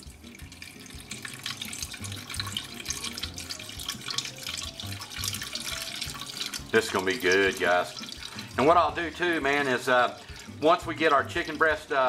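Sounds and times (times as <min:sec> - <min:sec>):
broth pouring and splashing: 0:00.0 - 0:12.0.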